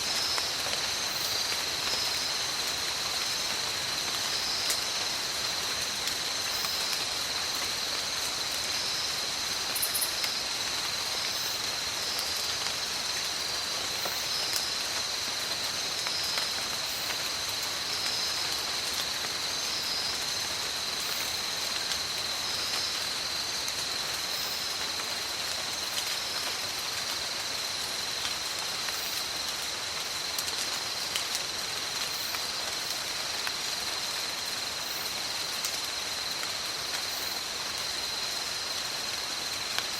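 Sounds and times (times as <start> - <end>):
rain falling through forest: 0.0 - 39.9.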